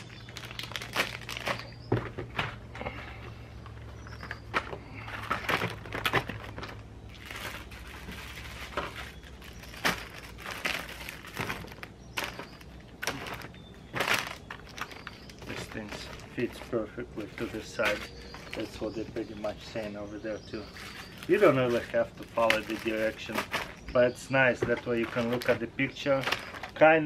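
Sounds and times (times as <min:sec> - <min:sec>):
plastic packets crinkling: 0:00.0 - 0:02.6, 0:03.6 - 0:27.0
items clicking into plastic case: 0:00.0 - 0:03.0, 0:03.6 - 0:19.9, 0:20.6 - 0:27.0.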